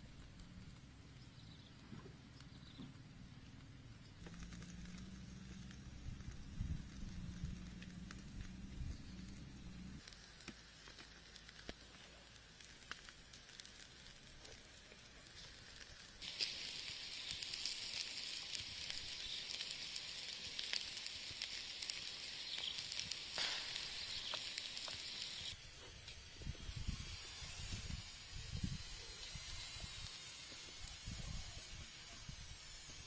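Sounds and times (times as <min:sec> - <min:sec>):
food frying in hot fat: 0:04.2 - 0:33.0.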